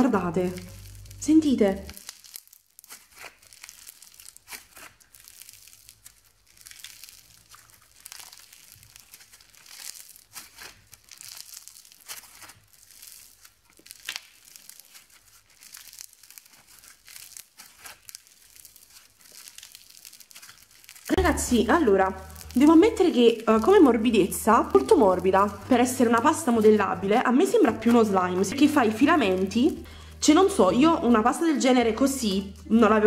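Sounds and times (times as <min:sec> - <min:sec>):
bead clay crackling and crinkling: 0:00.0 - 0:33.0.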